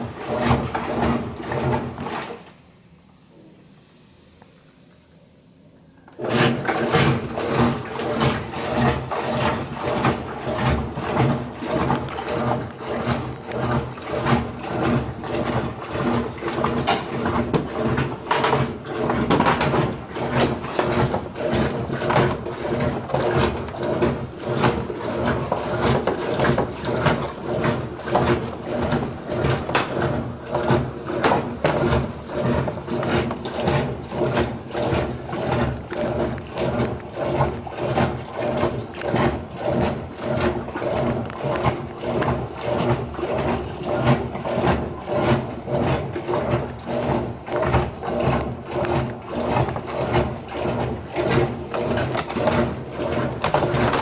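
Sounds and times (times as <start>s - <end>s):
washing machine knocking: 0.0s - 2.2s, 6.2s - 54.0s
washing machine motor humming: 0.0s - 2.8s, 5.9s - 54.0s.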